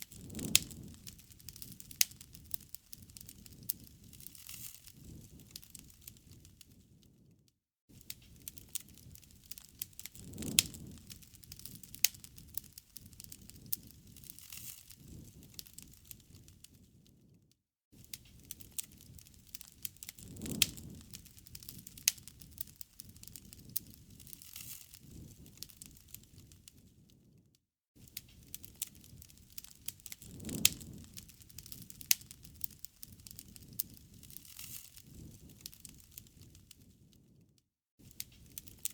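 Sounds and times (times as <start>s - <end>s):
campfire crackling and popping: 0.0s - 7.2s, 7.9s - 17.3s, 18.0s - 27.4s, 28.0s - 37.4s, 38.0s - 38.9s.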